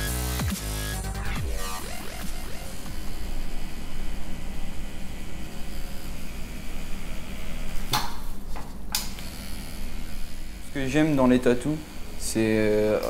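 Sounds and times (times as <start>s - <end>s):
tattoo machine buzzing: 0.2s - 13.0s.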